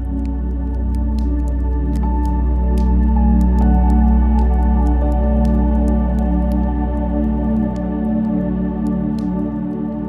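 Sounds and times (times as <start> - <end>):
fire crackling: 0.0 - 10.0.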